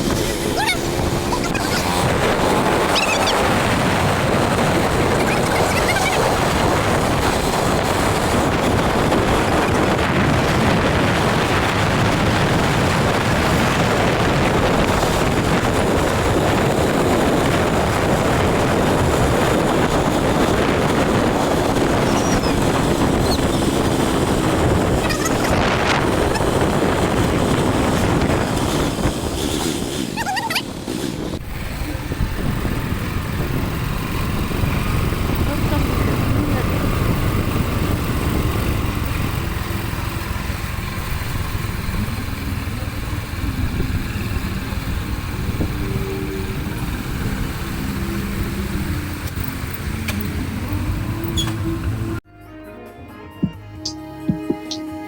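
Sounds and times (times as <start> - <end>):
moving vehicle rushing noise: 0.0 - 52.2
wind buffeting microphone: 0.0 - 52.2.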